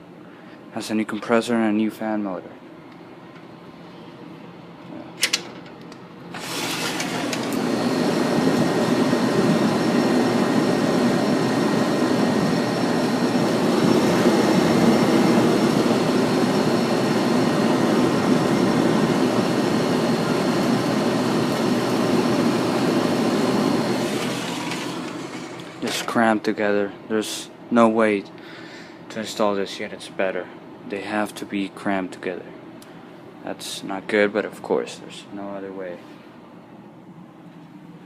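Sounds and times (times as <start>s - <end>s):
air conditioner unit running: 0.0s - 38.0s.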